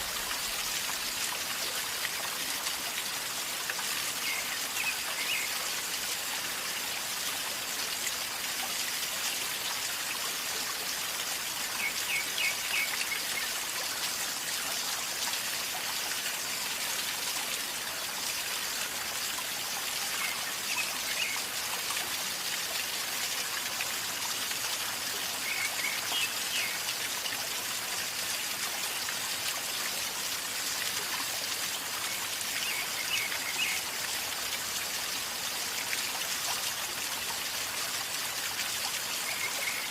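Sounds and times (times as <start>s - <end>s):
river water gurgling: 0.0s - 39.9s.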